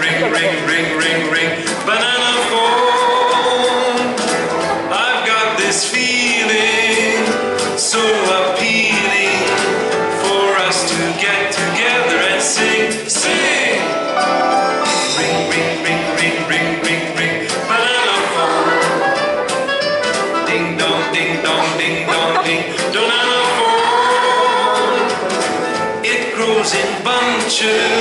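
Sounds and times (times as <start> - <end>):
children singing: 0.0 - 14.0, 14.9 - 19.3, 20.5 - 25.3, 26.1 - 28.0
accompaniment with steady beat: 0.0 - 28.0.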